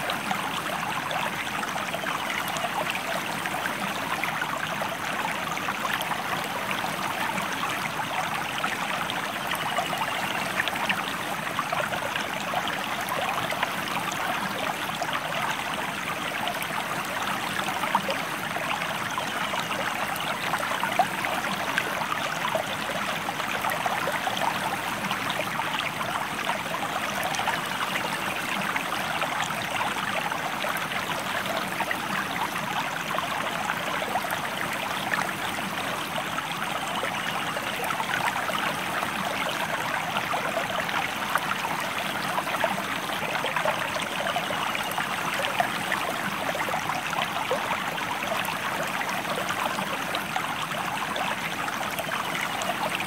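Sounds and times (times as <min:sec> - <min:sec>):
river stream flowing: 0:00.0 - 0:53.0.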